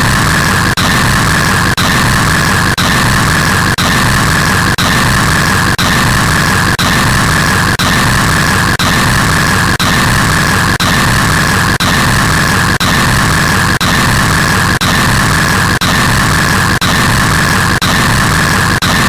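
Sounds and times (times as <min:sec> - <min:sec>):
harsh static noise: 0:00.0 - 0:19.0.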